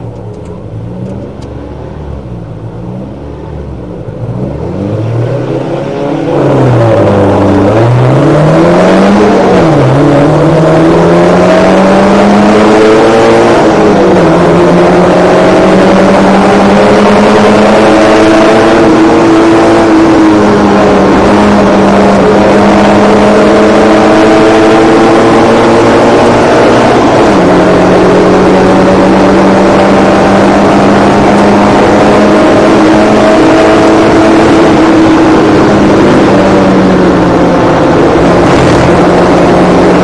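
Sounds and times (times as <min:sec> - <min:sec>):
car engine accelerating through gears: 0:00.0 - 0:40.0
race car engines revving: 0:00.0 - 0:40.0.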